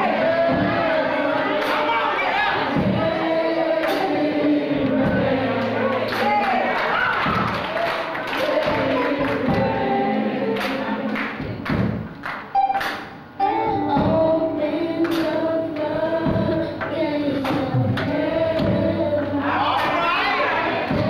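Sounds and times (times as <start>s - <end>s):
accompaniment with thudding beat: 0.0s - 6.4s, 7.2s - 21.0s
girl singing gospel: 0.0s - 12.0s, 13.4s - 21.0s.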